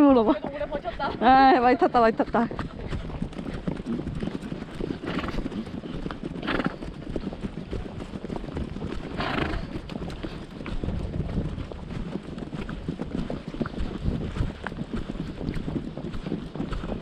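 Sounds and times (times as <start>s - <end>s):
horse hoofbeats running: 0.0s - 17.0s.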